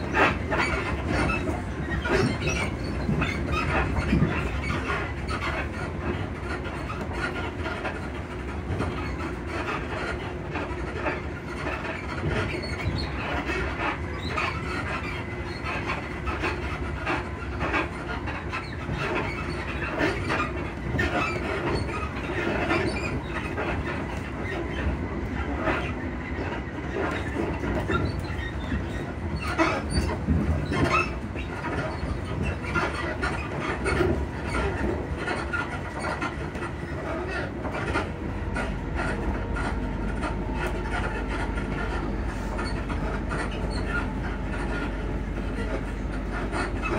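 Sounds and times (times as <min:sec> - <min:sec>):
knocks and rattles of train body: 0:00.0 - 0:46.9
train running rumble: 0:00.0 - 0:46.9.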